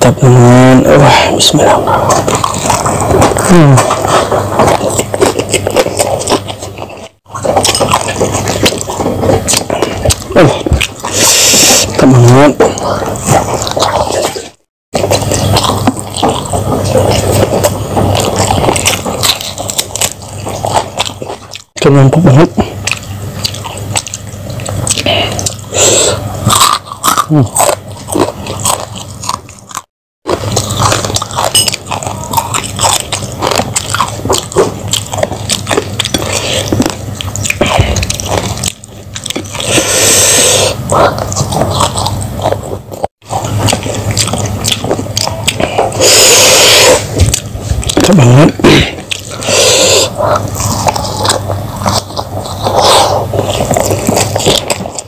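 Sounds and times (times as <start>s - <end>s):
crunches and wet mouth sounds: 0.0s - 55.0s
man chewing food: 0.0s - 55.0s.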